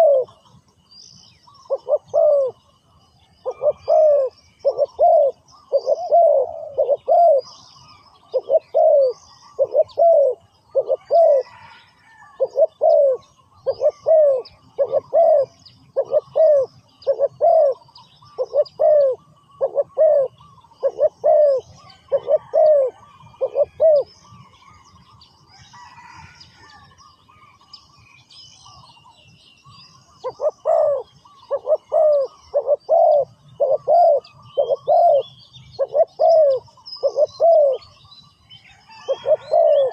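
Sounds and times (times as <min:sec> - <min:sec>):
dove cooing: 0:00.0 - 0:00.5, 0:01.5 - 0:02.6, 0:03.4 - 0:24.8, 0:30.0 - 0:38.1, 0:38.8 - 0:39.9
small birds chirping: 0:00.0 - 0:39.9.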